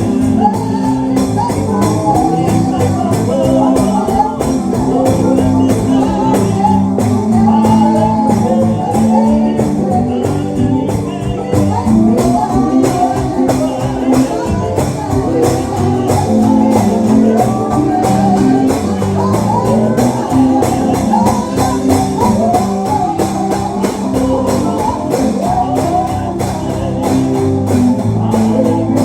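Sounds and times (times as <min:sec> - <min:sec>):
gospel band playing: 0:00.0 - 0:29.0
tambourine beat: 0:00.0 - 0:29.0.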